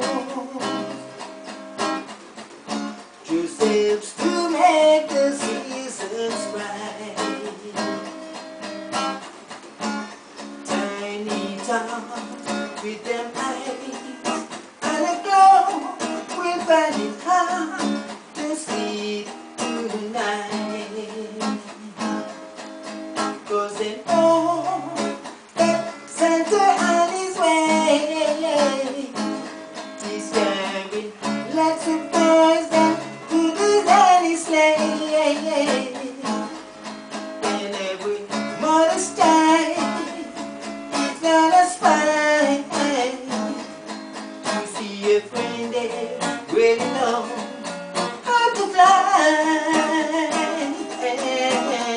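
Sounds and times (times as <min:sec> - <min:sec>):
man singing: 0:00.0 - 0:01.3, 0:03.2 - 0:08.3, 0:10.6 - 0:22.2, 0:23.3 - 0:51.9
acoustic guitar strumming: 0:00.0 - 0:51.9.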